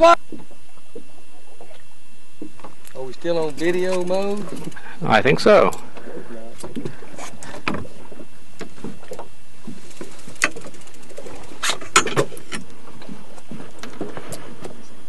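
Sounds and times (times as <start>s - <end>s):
boat background noise: 0.0s - 15.0s.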